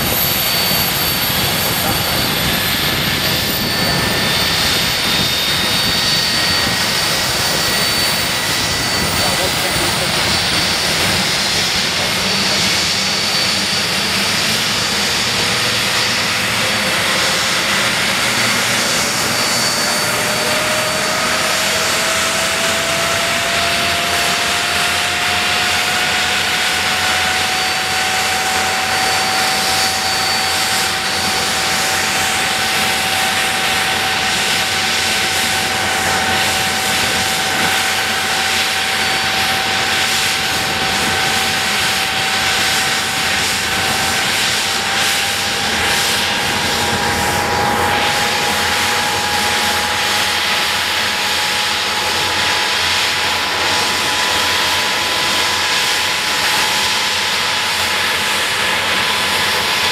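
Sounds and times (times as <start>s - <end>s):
jet engine roar: 0.0s - 59.9s
rising engine whine: 0.0s - 59.9s.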